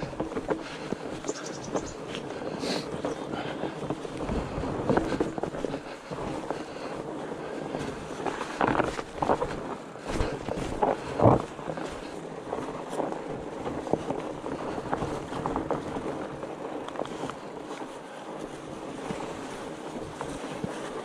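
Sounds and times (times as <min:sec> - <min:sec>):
wind rush on microphone: 0:00.0 - 0:21.0.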